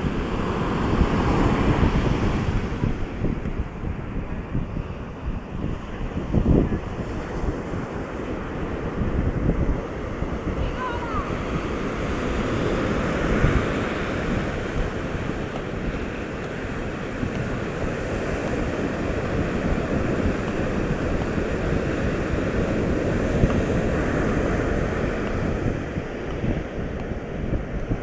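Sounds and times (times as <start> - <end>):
ocean surf breaking: 0.0 - 28.0
wind buffeting microphone: 0.0 - 28.0.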